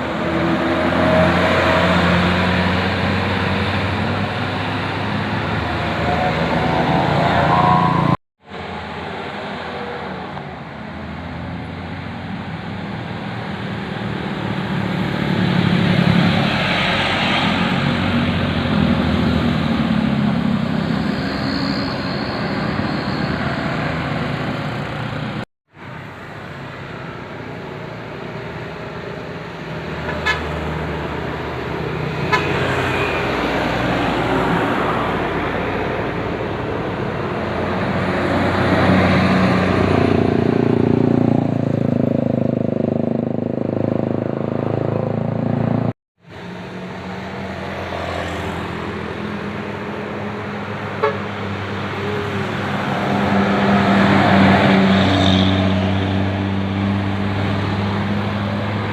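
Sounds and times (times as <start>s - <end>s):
bus engine running: 0.0s - 58.9s.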